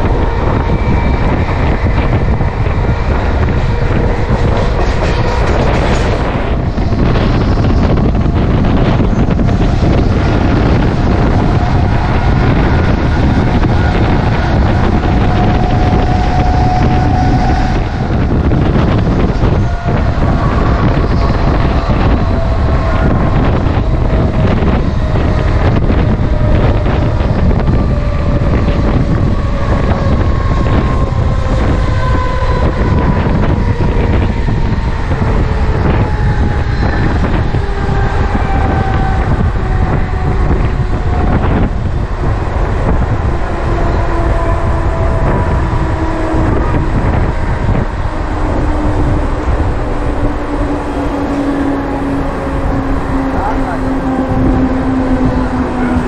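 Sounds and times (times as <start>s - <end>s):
electric train rumbling on rails: 0.0s - 56.0s
high whine falling in pitch: 0.0s - 56.0s
wind on microphone: 0.0s - 56.0s.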